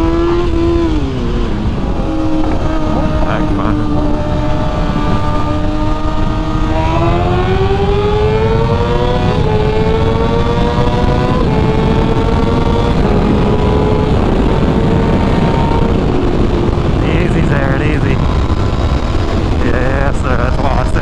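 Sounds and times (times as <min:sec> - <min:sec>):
motorcycle engine accelerating: 0:00.0 - 0:21.0
wind and road rumble: 0:00.0 - 0:21.0.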